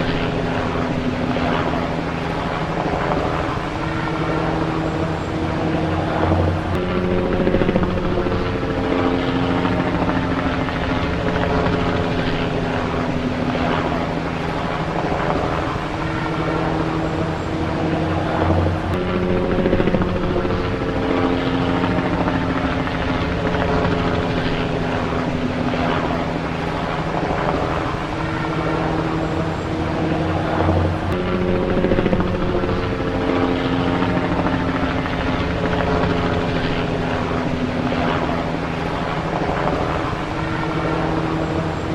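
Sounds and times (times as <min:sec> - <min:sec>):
helicopter engine and rotors: 0:00.0 - 0:41.9.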